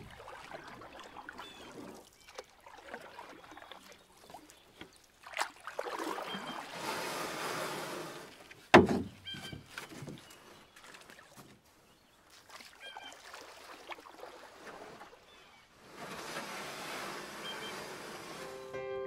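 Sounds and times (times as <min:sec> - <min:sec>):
paddle swishing and dripping: 0:00.0 - 0:18.7.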